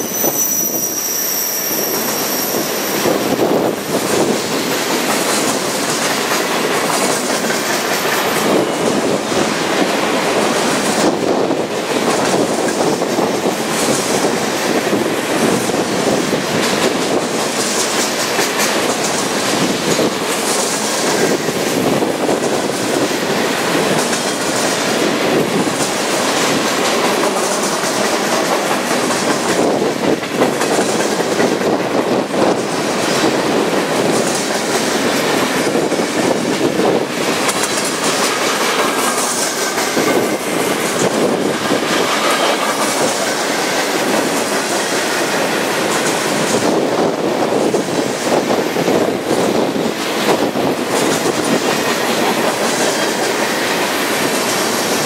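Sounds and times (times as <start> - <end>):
train wheels clicking over rail joints: 0.9 - 55.0.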